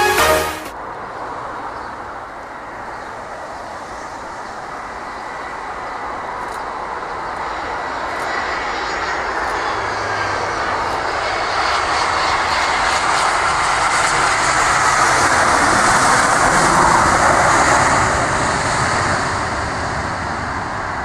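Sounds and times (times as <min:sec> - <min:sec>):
jet airliner landing: 0:02.6 - 0:21.0.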